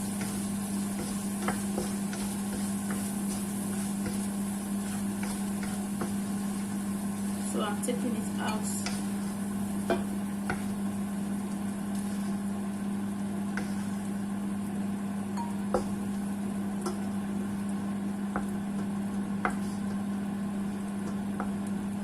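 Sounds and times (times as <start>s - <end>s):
faint sizzling: 0.0s - 22.0s.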